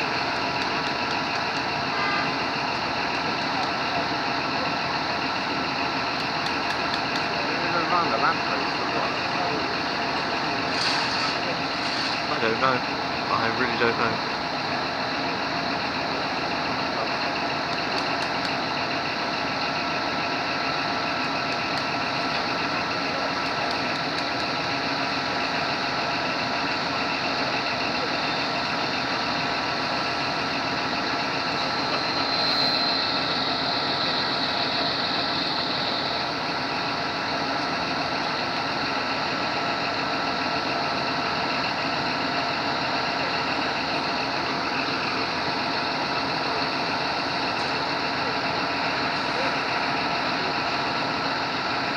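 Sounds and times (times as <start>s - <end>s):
high-pitched whine: 0.0s - 51.9s
vehicle engine idling: 0.0s - 51.9s.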